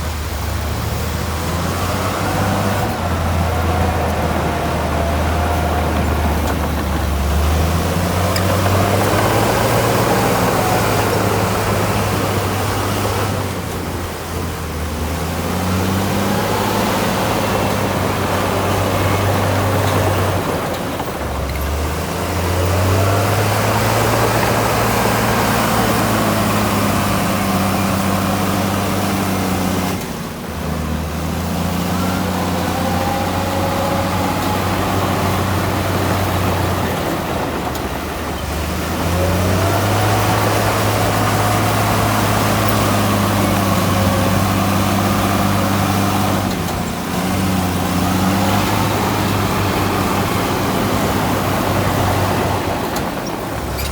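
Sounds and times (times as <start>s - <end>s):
heavy diesel machine engine: 0.0s - 53.9s.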